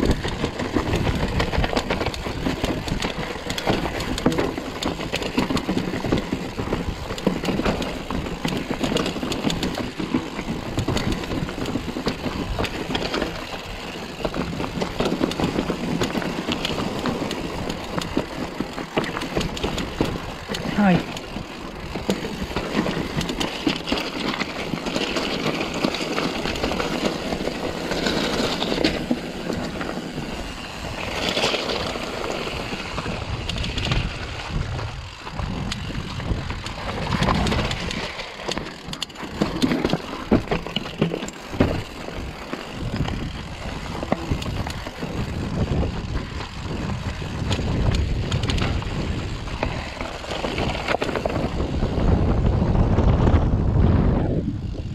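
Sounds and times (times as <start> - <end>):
bike rattling: 0.0 - 54.9
bike tyres crunching over rocks: 0.0 - 54.9
wind buffeting microphone: 0.0 - 54.9.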